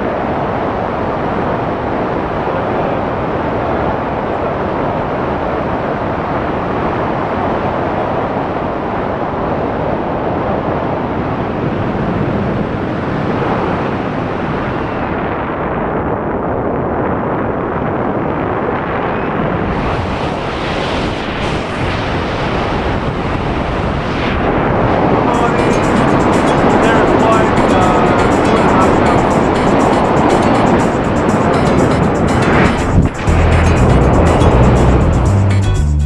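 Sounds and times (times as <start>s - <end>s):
wind blasting over microphone: 0.0s - 35.3s.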